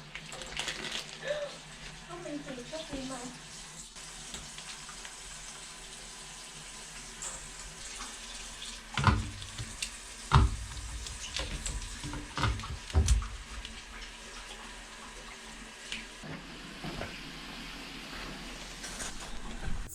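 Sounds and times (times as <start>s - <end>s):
water running from tap: 0.0s - 19.3s.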